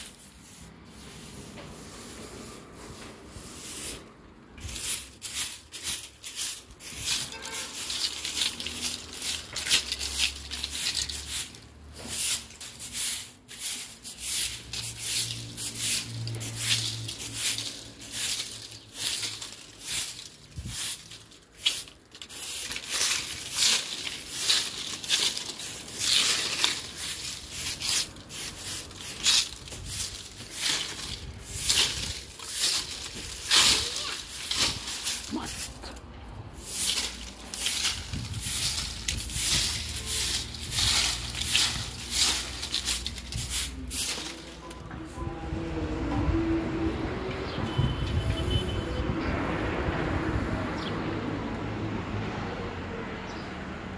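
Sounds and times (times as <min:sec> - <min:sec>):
broom sweeping on concrete: 0:00.0 - 0:45.2, 0:47.0 - 0:51.0
dry leaves rustling: 0:00.0 - 0:46.1.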